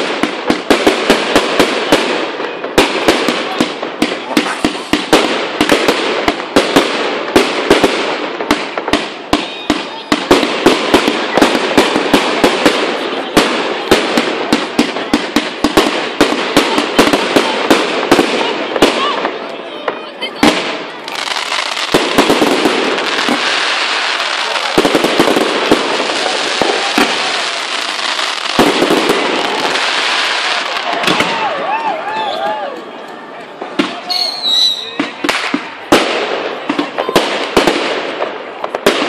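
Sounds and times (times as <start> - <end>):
fireworks bursting with loud bangs: 0.0 - 39.0.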